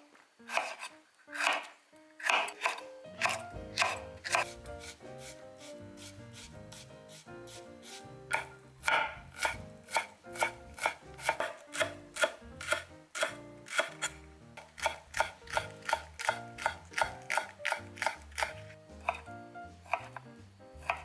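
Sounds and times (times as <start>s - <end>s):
knife chopping on cutting board: 0.5s - 19.2s, 19.8s - 20.2s, 20.8s - 21.0s.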